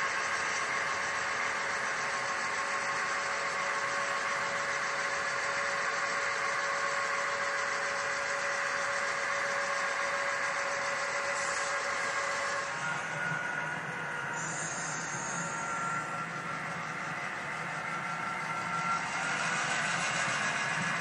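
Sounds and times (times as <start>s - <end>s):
model train motor humming: 0.0s - 21.0s.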